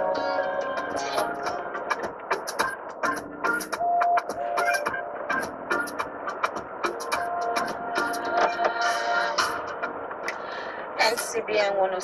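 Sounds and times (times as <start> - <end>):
music with drums on car radio: 0.0 - 12.0.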